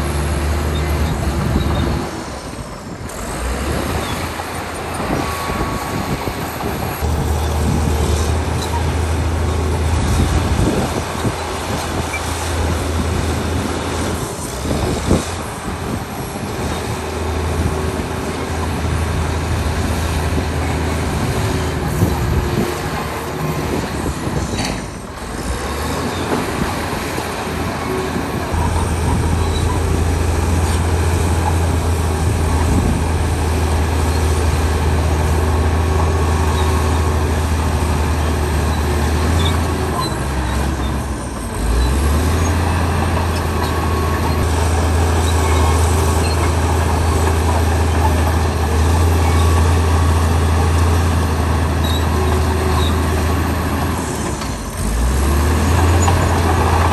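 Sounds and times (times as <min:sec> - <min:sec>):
heavy diesel engine droning: 0:00.0 - 0:56.9.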